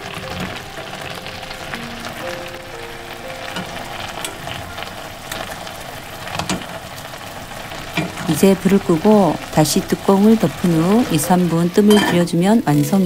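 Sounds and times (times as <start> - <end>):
food simmering and sizzling in a pan: 0.0 - 13.0.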